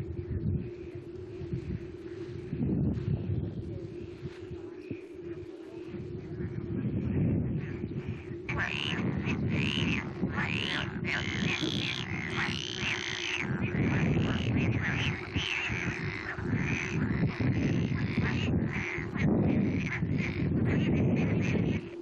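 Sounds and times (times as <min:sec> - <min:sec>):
frogs croaking: 0:00.0 - 0:02.6, 0:03.6 - 0:22.0
steady low rumble: 0:00.0 - 0:22.0.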